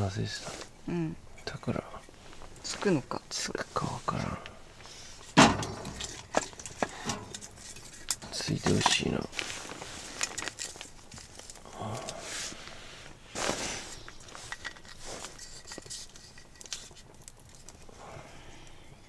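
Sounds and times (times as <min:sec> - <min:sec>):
kindling fire crackling: 0:00.0 - 0:19.0
tinder rustling and crinkling: 0:00.0 - 0:19.0.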